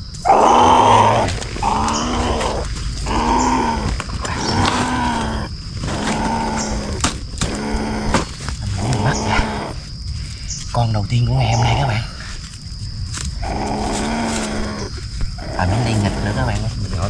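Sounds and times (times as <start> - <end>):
civet growling: 0.0 - 10.4, 11.1 - 12.4, 13.2 - 17.0.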